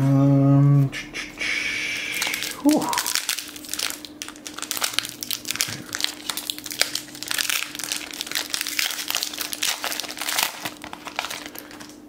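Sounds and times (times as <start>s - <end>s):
foil wrapper crinkling: 2.1s - 12.0s.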